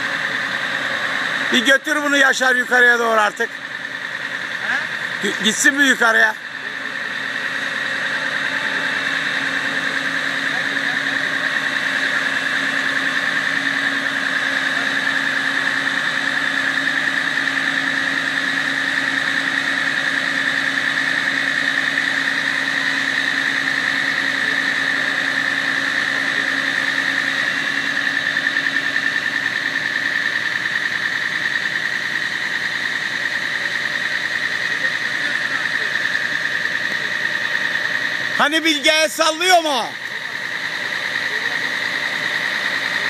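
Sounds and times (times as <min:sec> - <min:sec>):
fire truck engine running: 0:00.0 - 0:43.0
high whine: 0:00.0 - 0:43.0.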